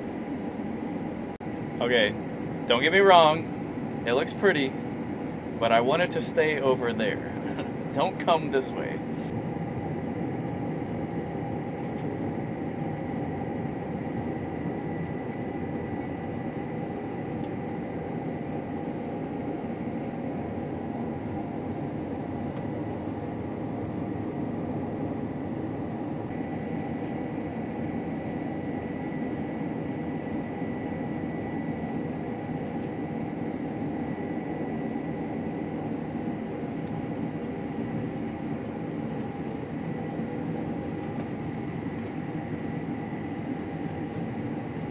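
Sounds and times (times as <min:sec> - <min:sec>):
high mechanical whine: 0:00.0 - 0:44.9.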